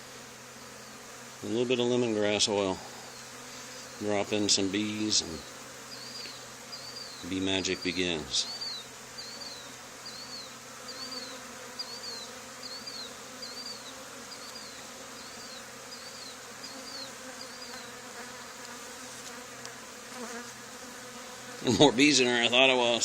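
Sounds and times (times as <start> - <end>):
honey bee swarm buzzing: 0.0 - 23.0.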